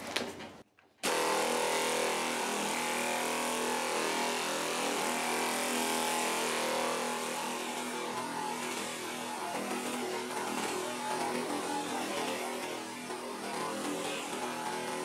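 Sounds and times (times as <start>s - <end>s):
air sander motor humming: 1.0s - 15.0s.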